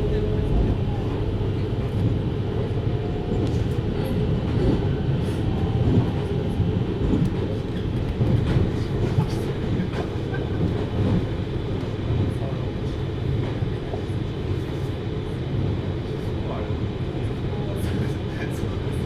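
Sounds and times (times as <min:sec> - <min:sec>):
train wheels and motors rumbling: 0:00.0 - 0:19.0.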